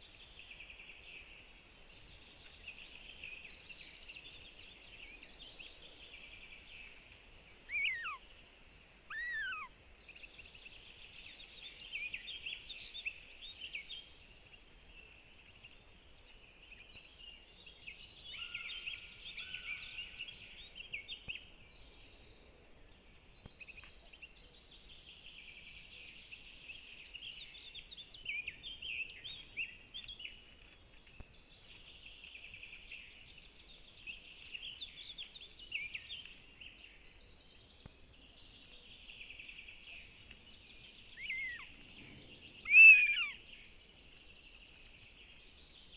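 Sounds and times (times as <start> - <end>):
songbirds twittering: 0.0 - 45.9.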